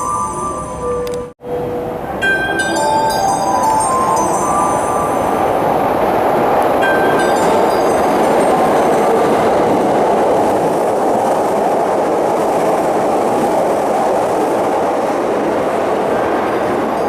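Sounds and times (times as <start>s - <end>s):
train wheels rumbling on rail: 2.2s - 17.0s.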